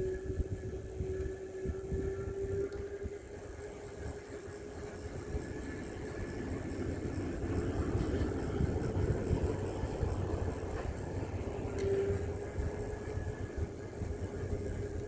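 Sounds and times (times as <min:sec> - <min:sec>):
wind on microphone: 0:00.0 - 0:03.6, 0:05.1 - 0:15.0
bicycle tyre and road noise: 0:00.0 - 0:15.0.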